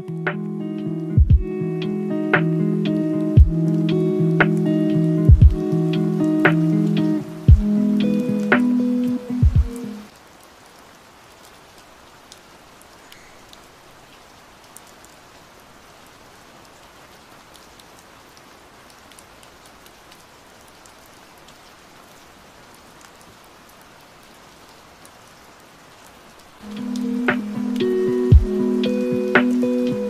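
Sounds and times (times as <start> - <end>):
light rain: 0.0 - 30.0.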